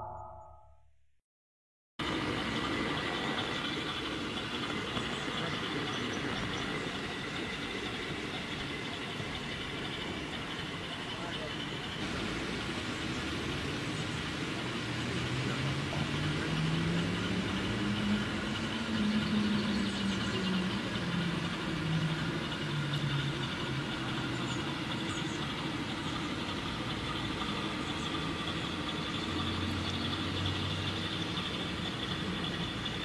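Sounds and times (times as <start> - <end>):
model boat motor running: 2.0 - 33.0.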